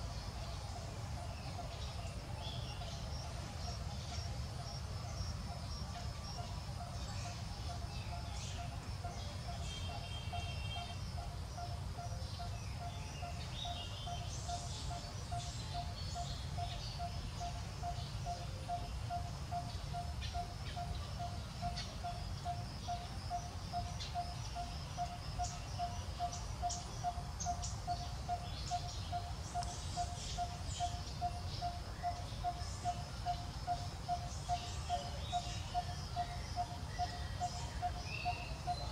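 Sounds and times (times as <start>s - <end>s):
steady repeated bird call: 0.0s - 38.9s.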